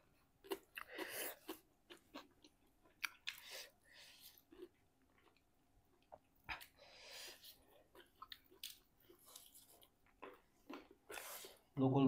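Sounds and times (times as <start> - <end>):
chewing and mouth clicks: 0.4 - 6.8, 7.4 - 11.6.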